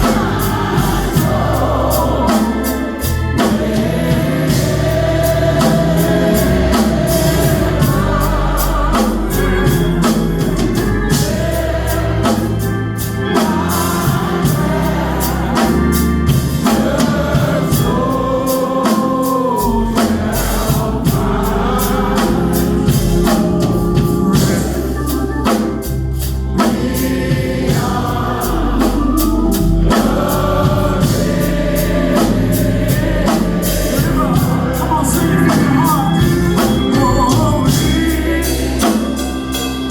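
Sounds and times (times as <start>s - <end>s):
choir singing: 0.0s - 39.9s
drums beating: 0.0s - 39.9s
organ: 0.0s - 39.9s.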